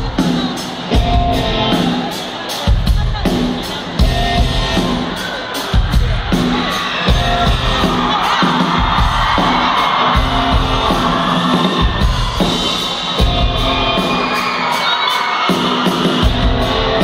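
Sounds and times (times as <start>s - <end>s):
crowd whooping and shouting: 0.0s - 17.0s
live rock band playing: 0.0s - 17.0s.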